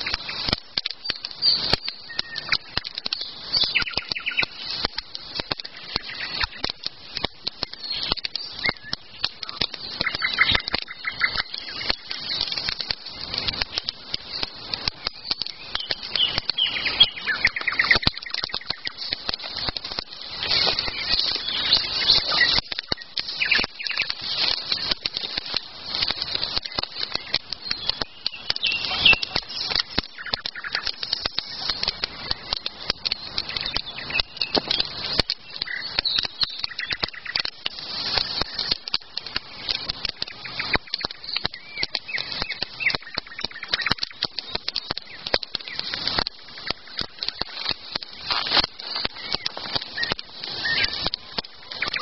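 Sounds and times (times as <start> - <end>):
campfire crackling: 0.0 - 52.0
faint bird chirps: 0.1 - 13.5, 14.2 - 38.8, 39.4 - 52.0.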